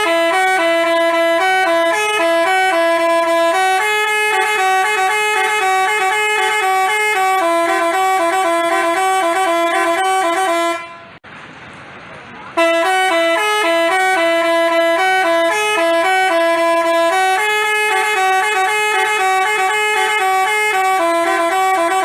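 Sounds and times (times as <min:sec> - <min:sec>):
multi-tone bus horn tune: 0:00.0 - 0:11.2, 0:12.5 - 0:22.0.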